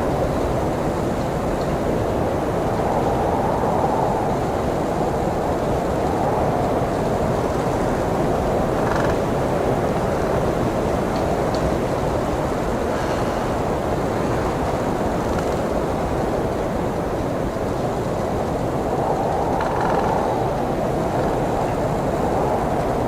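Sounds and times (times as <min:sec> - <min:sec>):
blizzard wind rushing: 0:00.0 - 0:23.0.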